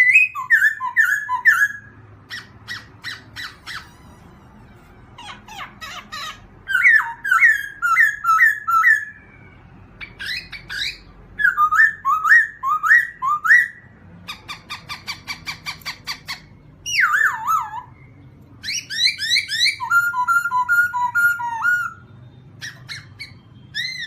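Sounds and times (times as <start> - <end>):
songbird singing: 0.0 - 4.4, 5.2 - 24.0.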